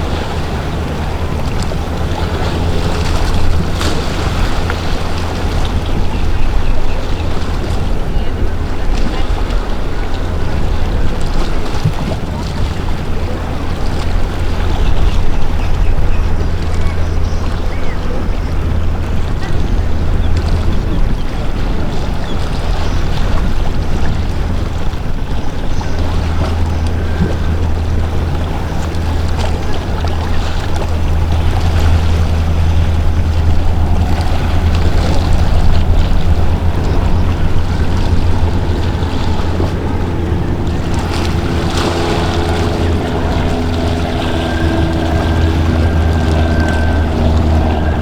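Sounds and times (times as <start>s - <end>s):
boat engines droning: 0.0s - 48.0s
higher steady hum: 0.0s - 48.0s
water wash: 0.0s - 48.0s
wind: 0.0s - 48.0s.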